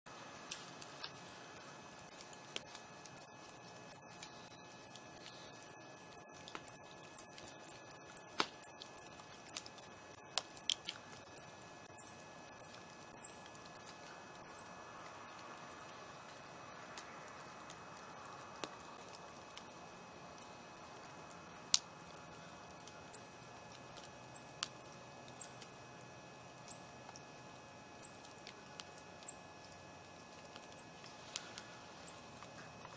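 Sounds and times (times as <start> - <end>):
embers crackling and popping: 0.1 - 32.9.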